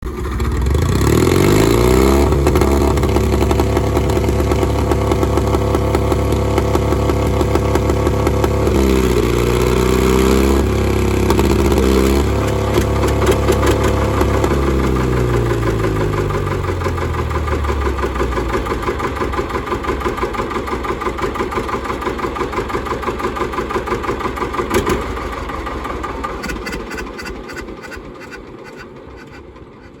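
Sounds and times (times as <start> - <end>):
diesel tractor engine revving: 0.0 - 30.0.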